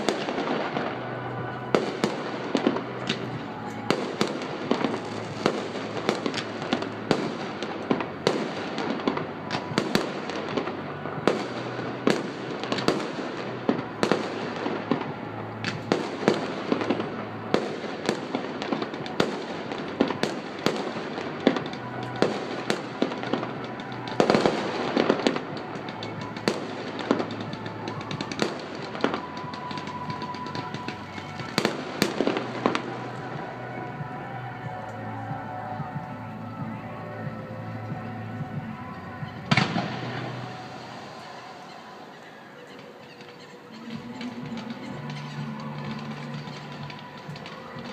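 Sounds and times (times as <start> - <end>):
fireworks banging and cracking: 0.0 - 47.9.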